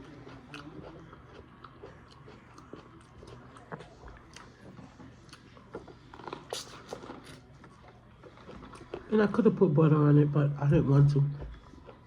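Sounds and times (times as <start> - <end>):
person chewing food: 0.0 - 9.3, 11.4 - 12.0.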